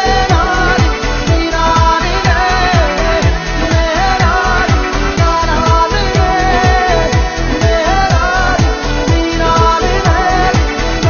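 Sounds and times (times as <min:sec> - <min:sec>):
deep kick drum: 0:00.0 - 0:11.0
pop song: 0:00.0 - 0:11.0.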